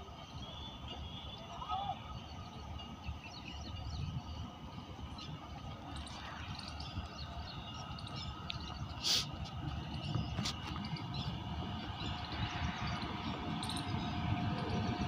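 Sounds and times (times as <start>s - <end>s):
distant train rumble: 0.0s - 15.0s
birds chirping: 0.2s - 15.0s.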